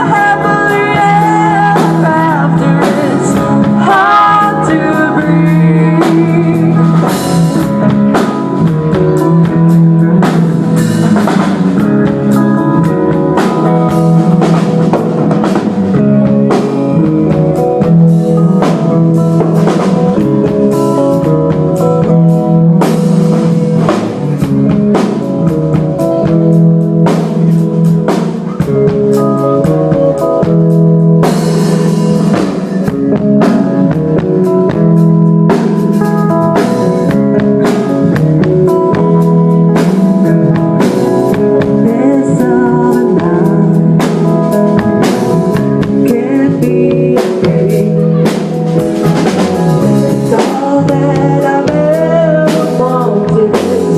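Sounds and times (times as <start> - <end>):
drum kit steady beat: 0.0 - 53.9
guitar: 0.0 - 53.9.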